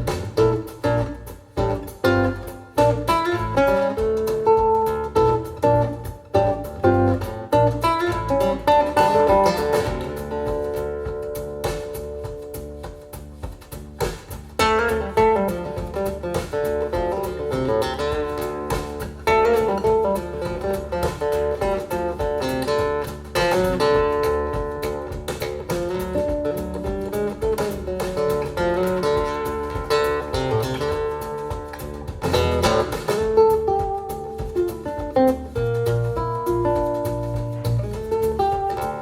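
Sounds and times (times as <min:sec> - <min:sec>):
acoustic guitar music on loudspeakers: 0:00.0 - 0:39.0.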